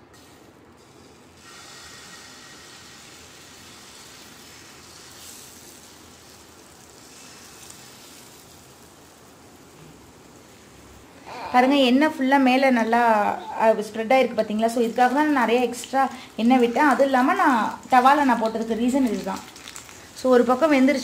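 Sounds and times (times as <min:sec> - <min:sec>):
batter sizzling in hot oil: 0:00.2 - 0:11.0, 0:14.2 - 0:21.0.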